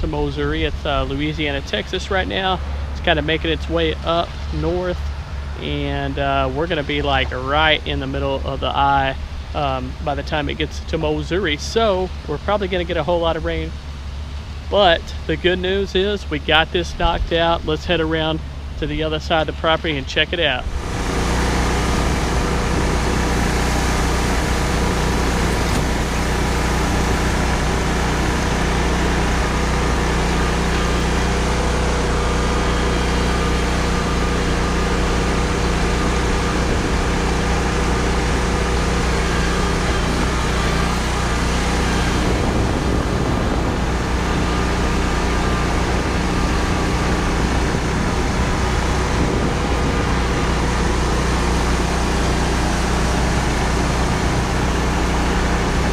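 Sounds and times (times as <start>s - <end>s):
vehicle engine running: 0.0s - 55.9s.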